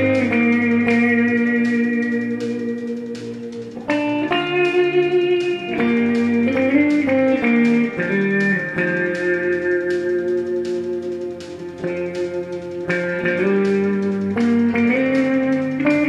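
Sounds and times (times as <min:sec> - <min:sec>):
electric guitar chords: 0:00.0 - 0:16.0
light beat: 0:00.0 - 0:16.0.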